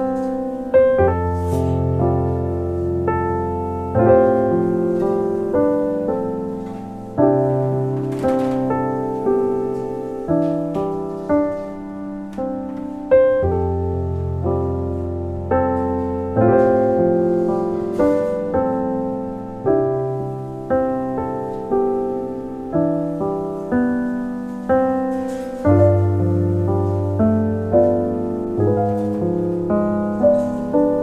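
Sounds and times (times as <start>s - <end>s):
slow solo piano: 0.0s - 31.0s.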